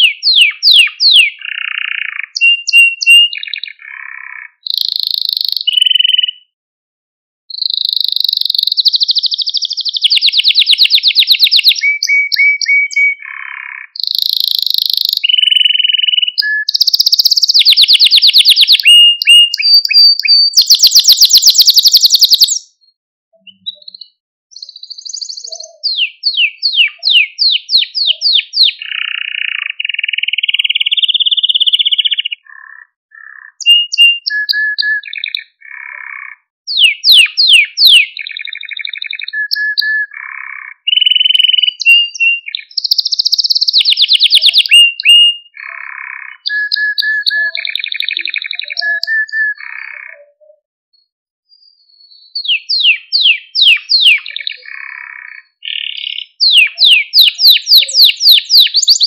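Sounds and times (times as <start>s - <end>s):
canary singing rolling trills: 0.0s - 6.5s, 7.5s - 59.0s.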